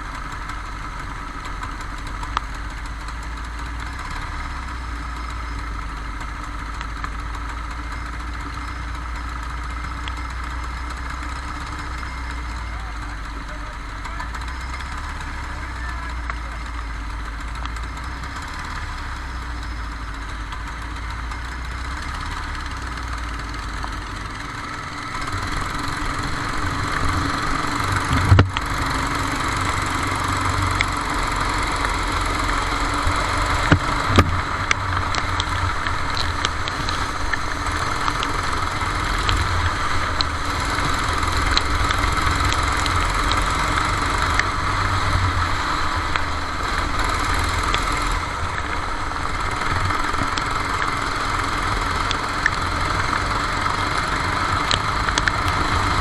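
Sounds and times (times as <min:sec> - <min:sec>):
racing kart engine running: 0:00.0 - 0:56.0.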